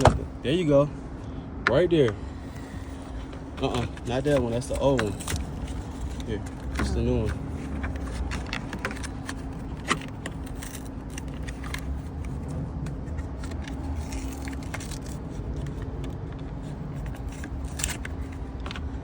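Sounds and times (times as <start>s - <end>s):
steady low hum: 0.0s - 19.0s
plastic socket clicks and scrapes: 3.6s - 19.0s.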